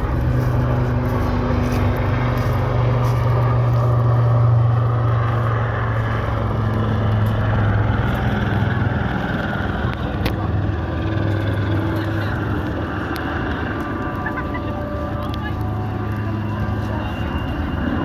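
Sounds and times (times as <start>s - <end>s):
helicopters droning: 0.0s - 18.0s.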